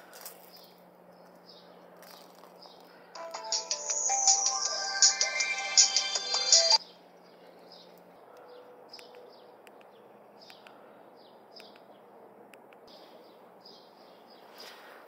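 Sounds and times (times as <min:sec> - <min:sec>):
small birds chirping: 0:00.3 - 0:04.2, 0:06.3 - 0:15.0.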